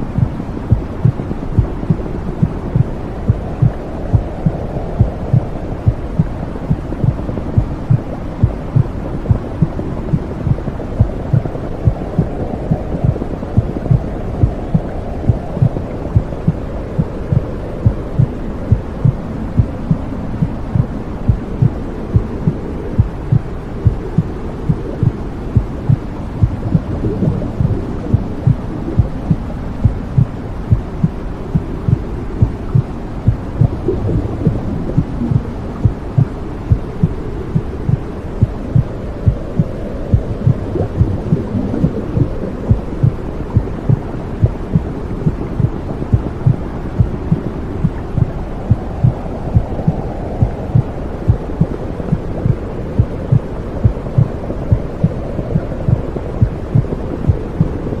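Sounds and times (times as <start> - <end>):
heartbeat thumping: 0.0 - 57.8
low whooshing rush: 0.0 - 58.0.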